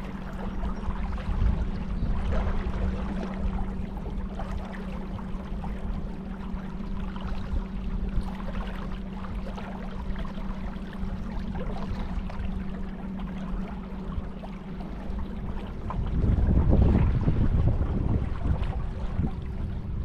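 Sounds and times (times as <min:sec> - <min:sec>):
wind buffeting microphone: 0:00.0 - 0:10.3, 0:13.8 - 0:20.0
boat motor humming: 0:00.0 - 0:20.0
water noise: 0:00.0 - 0:20.0.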